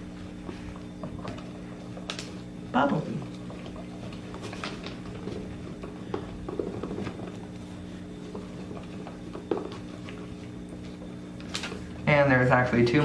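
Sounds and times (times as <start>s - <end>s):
sticks stirring slime in cup: 0.0s - 12.0s
steady low hum: 0.0s - 13.0s.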